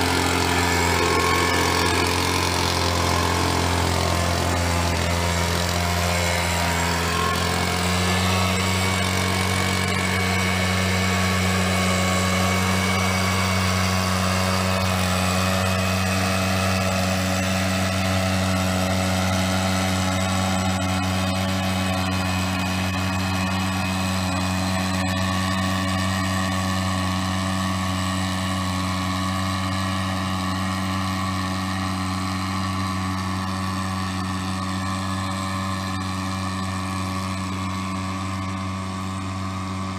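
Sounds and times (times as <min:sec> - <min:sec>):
mist-blower engine running: 0:00.0 - 0:39.9.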